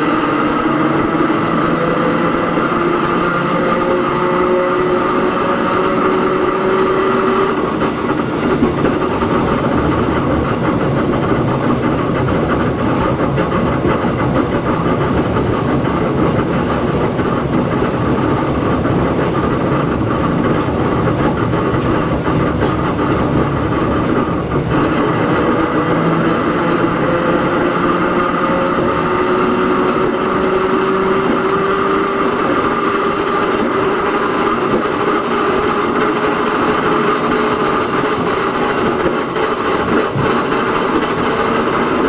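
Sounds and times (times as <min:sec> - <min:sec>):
wheels rumbling on rails: 0:00.0 - 0:42.0.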